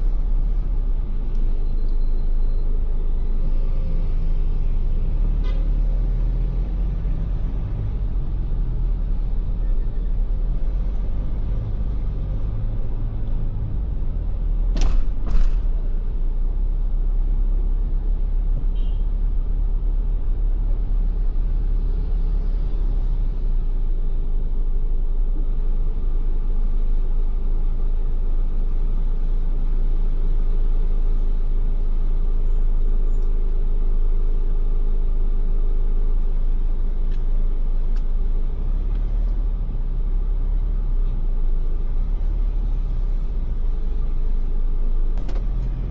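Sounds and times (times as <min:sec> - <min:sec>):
car interior rumble: 0:00.0 - 0:45.9.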